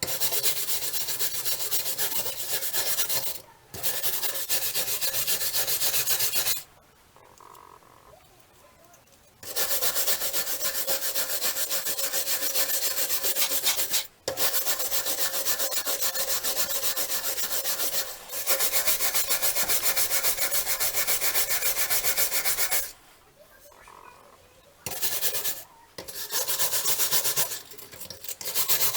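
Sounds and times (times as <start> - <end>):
rasping on metal wrench: 0.0 - 6.6, 9.4 - 22.9, 24.9 - 28.9.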